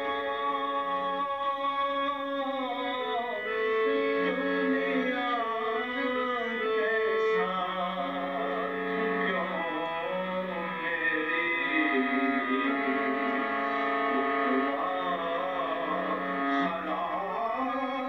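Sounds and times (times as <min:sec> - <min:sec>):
harmonium playing slow melody: 0:00.0 - 0:18.0
person singing: 0:00.0 - 0:18.0.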